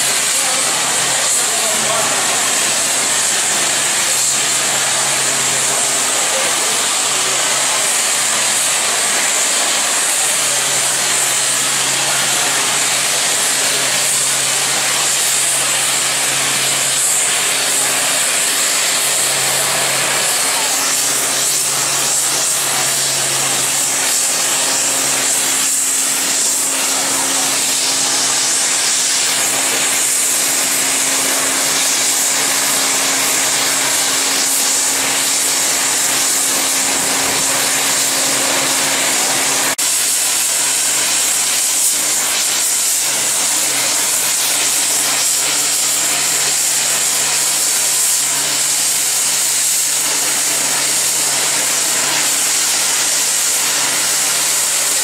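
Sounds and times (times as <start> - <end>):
steam hissing from safety valve: 0.0 - 55.0.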